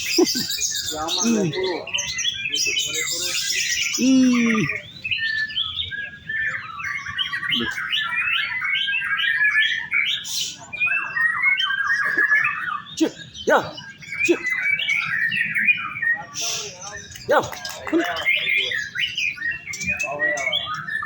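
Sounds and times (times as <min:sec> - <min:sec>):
bird singing rapid chirps and trills: 0:00.0 - 0:21.0.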